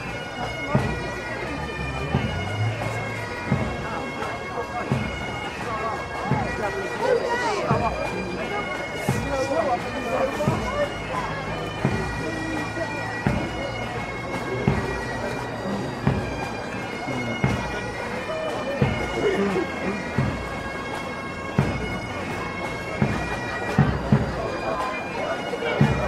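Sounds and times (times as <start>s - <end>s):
bagpipes playing: 0.0s - 26.0s.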